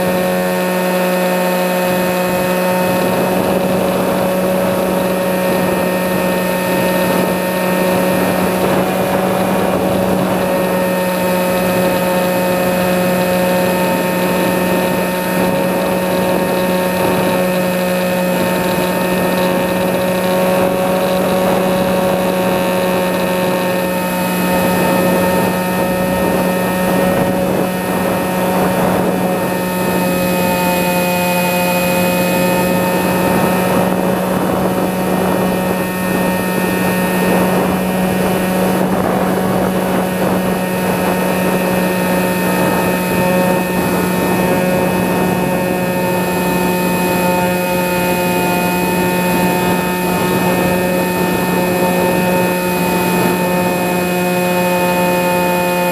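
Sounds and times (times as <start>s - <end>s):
electric motor and propeller: 0.0s - 55.9s
wind noise on microphone: 0.0s - 55.9s.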